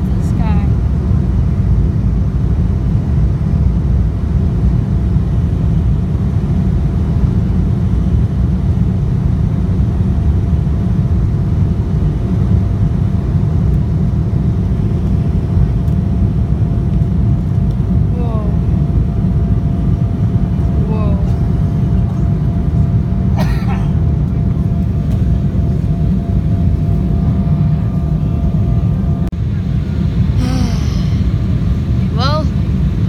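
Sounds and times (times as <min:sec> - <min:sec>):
low rumble of jet cabin: 0:00.0 - 0:33.0.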